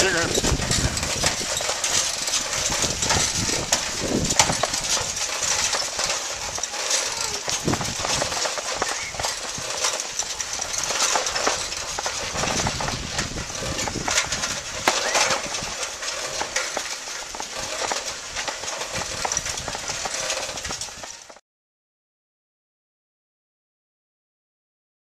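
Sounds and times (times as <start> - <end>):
bicycles rattling over dirt road: 0.0 - 21.4.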